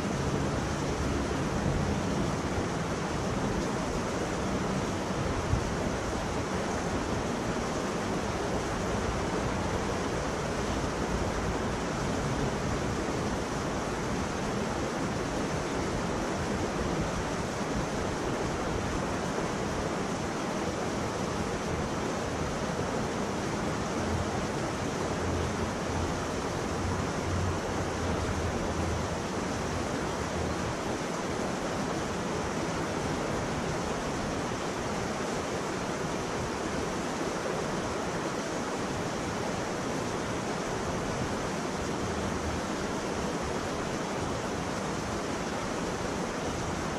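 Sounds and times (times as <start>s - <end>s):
river water rushing over rapids: 0.0s - 46.9s.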